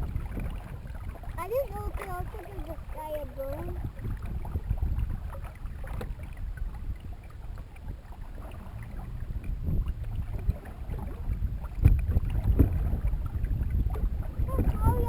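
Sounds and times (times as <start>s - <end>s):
water against canoe hull: 0.0s - 15.0s
wind buffeting microphone: 0.0s - 15.0s.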